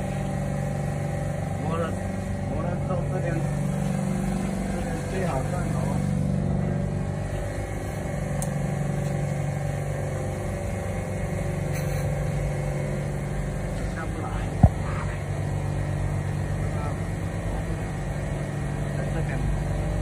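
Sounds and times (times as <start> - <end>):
grinding machine humming: 0.0 - 20.0.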